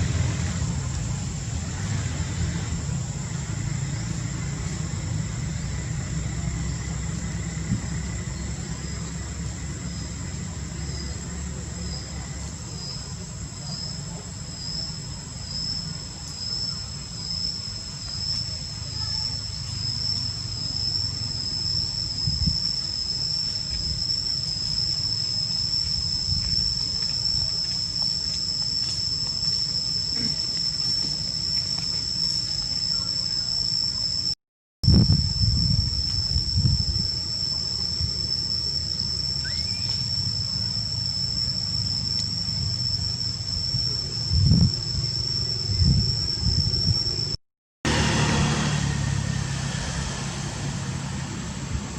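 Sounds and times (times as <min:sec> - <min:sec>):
insects buzzing: 0:00.0 - 0:51.8.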